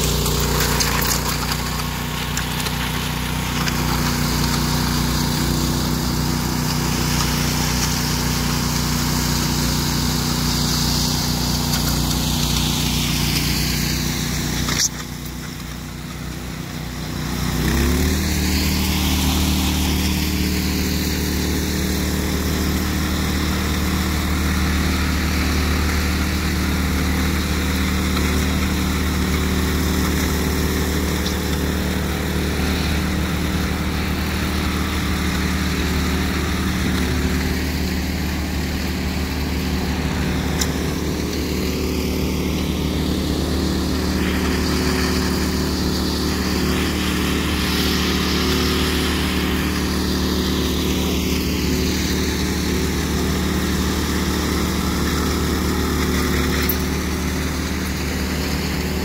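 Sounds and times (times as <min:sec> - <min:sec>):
power trowel engines droning: 0:00.0 - 0:59.0.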